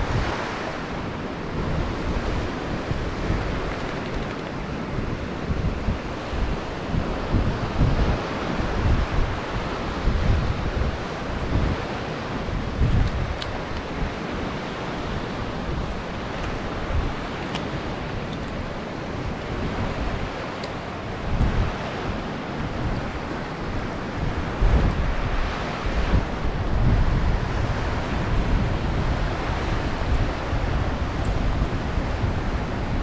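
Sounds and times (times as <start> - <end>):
ocean surf on beach: 0.0 - 33.0
wind buffeting microphone: 0.0 - 33.0.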